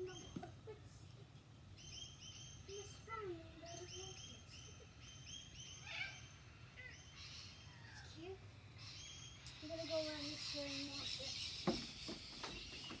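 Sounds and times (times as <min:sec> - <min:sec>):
high bird chirps: 0:01.8 - 0:13.0.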